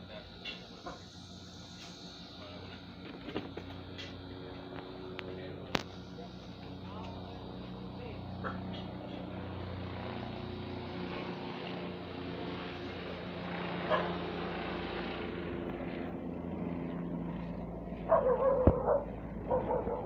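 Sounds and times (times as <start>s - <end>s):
helicopter engine and rotor: 0.0s - 20.0s.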